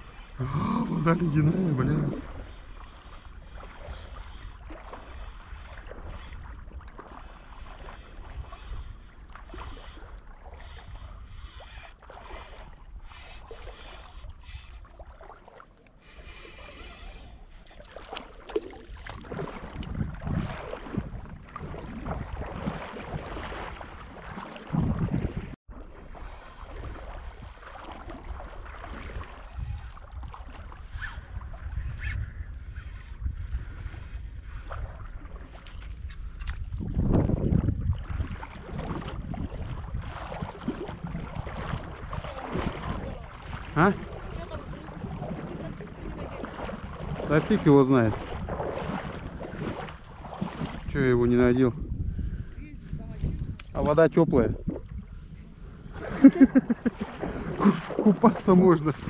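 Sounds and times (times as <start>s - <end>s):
wind on microphone: 0.0s - 15.3s, 16.0s - 59.0s
small waves lapping: 0.0s - 59.0s
water sloshing around legs: 1.0s - 31.7s, 34.6s - 59.0s.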